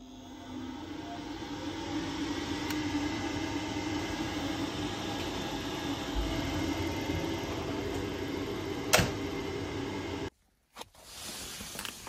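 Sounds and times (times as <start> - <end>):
boiler fan and burner running: 0.0 - 10.3.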